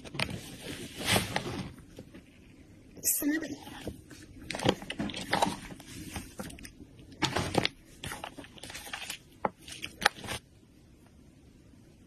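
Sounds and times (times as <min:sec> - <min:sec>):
crackling and popping: 0:00.0 - 0:03.0, 0:03.8 - 0:11.2.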